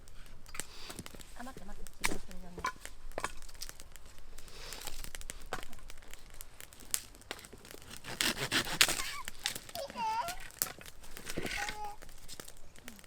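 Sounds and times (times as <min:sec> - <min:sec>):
dry twigs and leaves crunching: 0:00.0 - 0:13.0.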